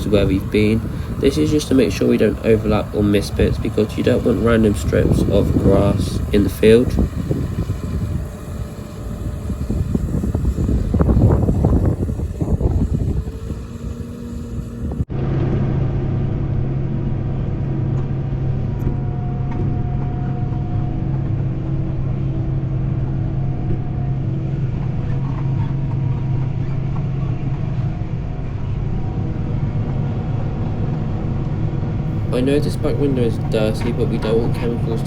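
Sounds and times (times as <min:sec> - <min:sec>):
tractor engine droning: 0:00.0 - 0:35.0
wind buffeting microphone: 0:00.0 - 0:35.0.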